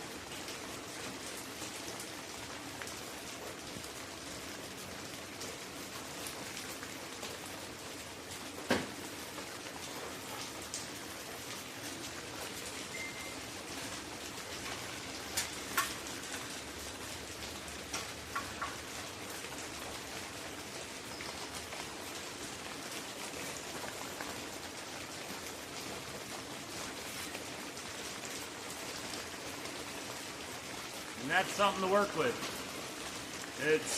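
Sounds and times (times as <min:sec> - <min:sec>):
steady rain-like hiss: 0:00.0 - 0:33.9.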